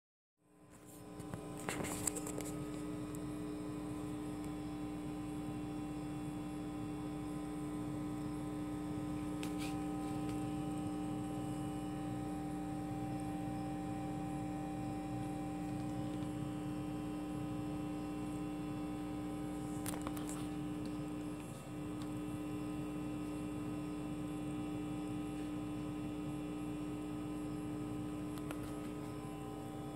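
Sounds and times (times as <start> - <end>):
guitar amplifier electrical hum: 0.4 - 29.9.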